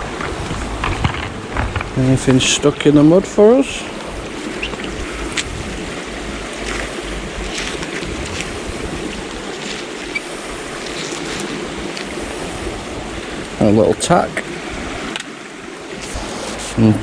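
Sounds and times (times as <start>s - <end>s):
faint splashes: 0.0s - 13.6s
river water rushing: 0.0s - 17.0s.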